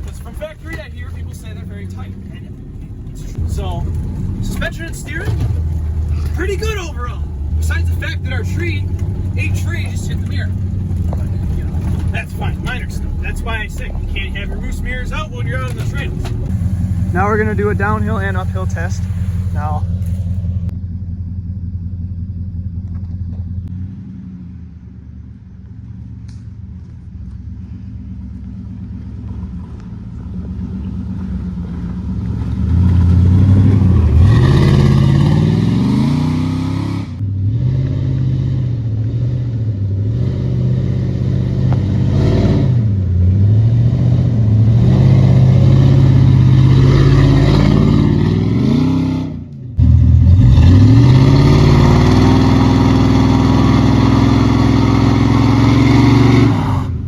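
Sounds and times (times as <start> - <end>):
truck engine under load: 0.0 - 57.0.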